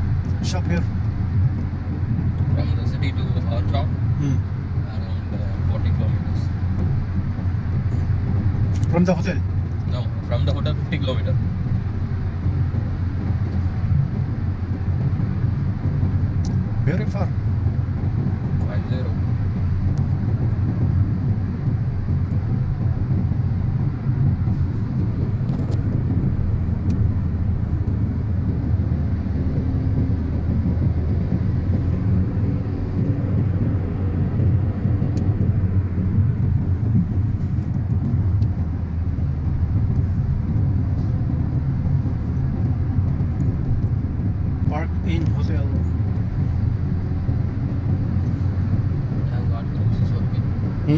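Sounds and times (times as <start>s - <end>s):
car interior road rumble: 0.0s - 50.9s.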